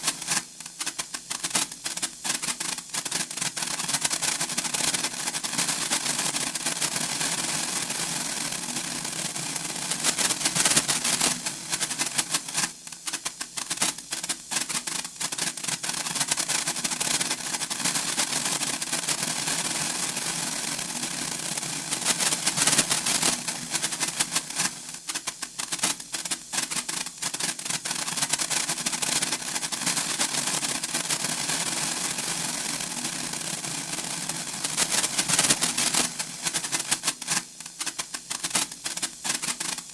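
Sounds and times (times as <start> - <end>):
sparkler crackling: 0.0 - 39.9.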